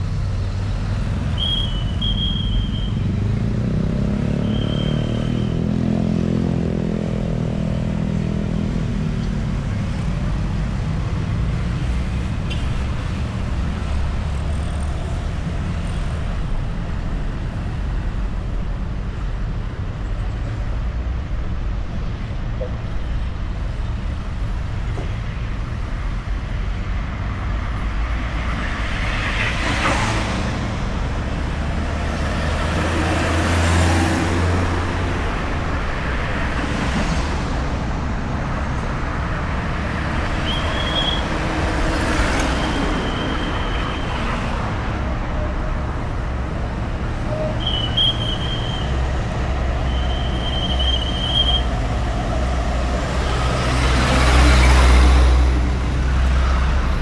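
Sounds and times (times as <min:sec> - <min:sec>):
cars and motorbikes passing: 0:00.0 - 0:57.0.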